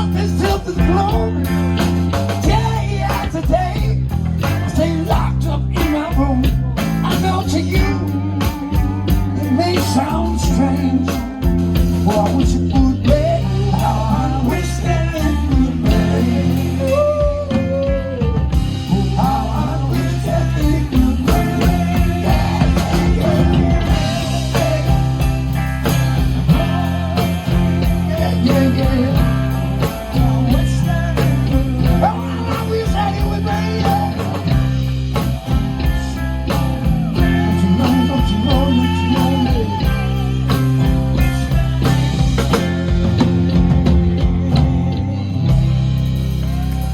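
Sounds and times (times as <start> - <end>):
slow soul-blues band: 0.0 - 46.9.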